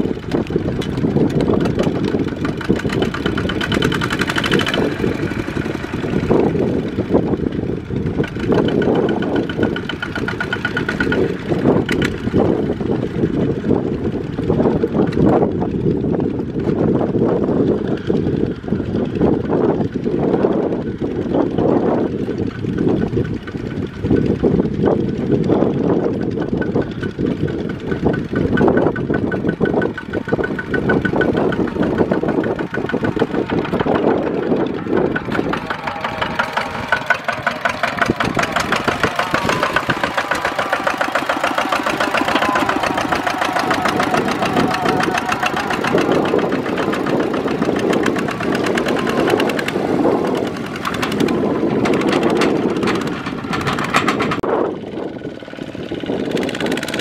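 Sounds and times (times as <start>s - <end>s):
diesel tractor engine chugging: 0.0s - 57.0s.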